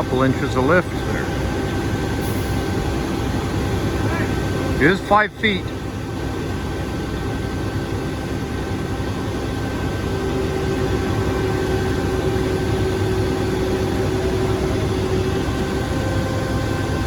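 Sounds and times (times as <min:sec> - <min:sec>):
diesel engine running: 0:00.0 - 0:17.0
steady whine: 0:00.0 - 0:17.0.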